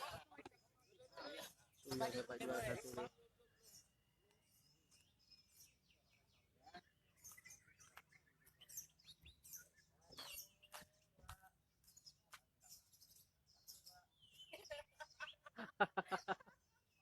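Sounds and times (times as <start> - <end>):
birds singing faintly: 0.0 - 17.0.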